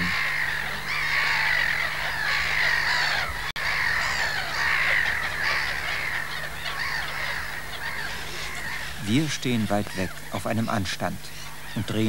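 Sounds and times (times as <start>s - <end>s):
gulls calling in alarm: 0.0s - 12.0s.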